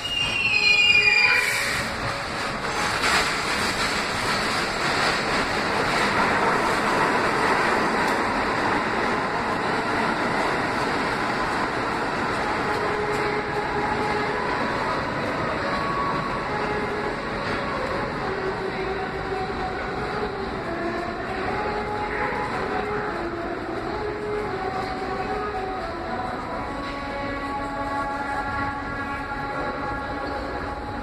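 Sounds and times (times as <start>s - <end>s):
subway train wheels rumbling: 0.0s - 31.0s.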